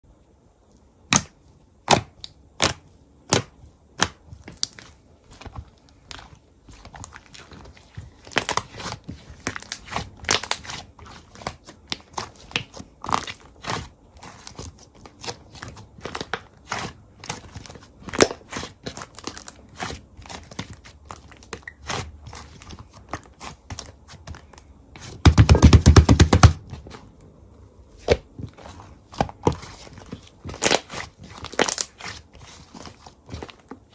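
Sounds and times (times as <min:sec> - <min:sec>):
slime squished by hand: 0:01.1 - 0:27.0, 0:28.0 - 0:33.9.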